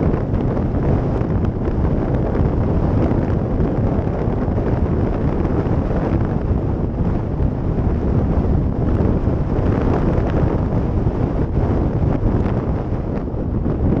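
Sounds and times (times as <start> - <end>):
motorcycle engine and tyre noise: 0.0 - 14.0
wind buffeting microphone: 0.0 - 14.0.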